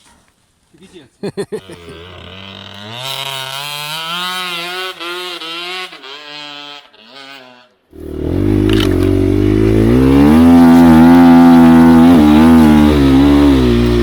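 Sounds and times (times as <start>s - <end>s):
dirt bike engine revving: 1.5s - 14.0s.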